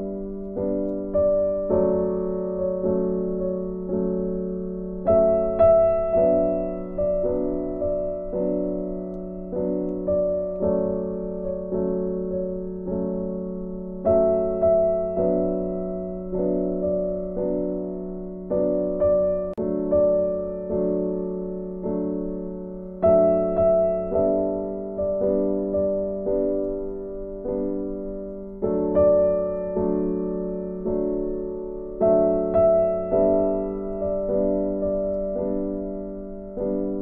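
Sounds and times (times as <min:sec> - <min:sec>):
gentle piano music: 0:00.0 - 0:37.0.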